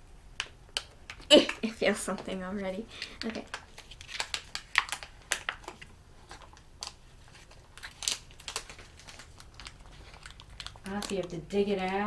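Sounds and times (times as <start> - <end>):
packaging crinkling: 0.8 - 12.0.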